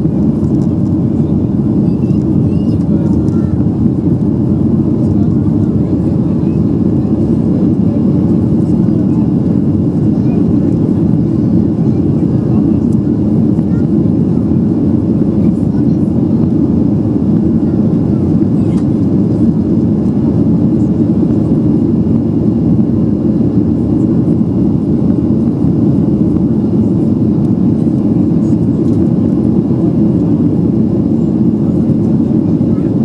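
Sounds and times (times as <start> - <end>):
jet engines droning: 0.0 - 33.0.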